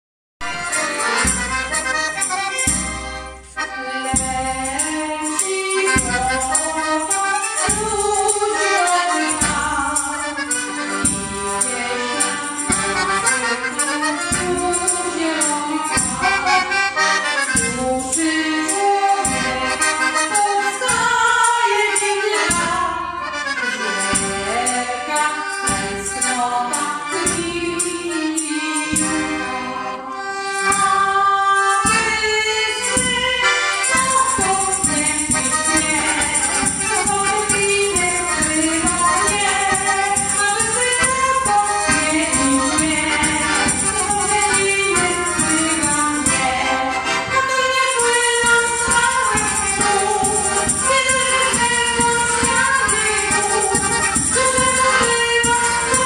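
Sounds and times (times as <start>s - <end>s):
violin playing folk tune: 0.4s - 25.7s, 26.3s - 56.0s
piano accordion: 0.4s - 56.0s
woman singing into microphone: 3.6s - 16.7s, 17.5s - 56.0s.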